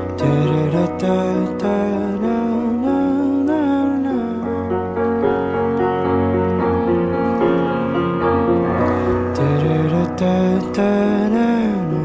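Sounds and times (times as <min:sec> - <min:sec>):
instrumental keyboard music: 0:00.0 - 0:12.0.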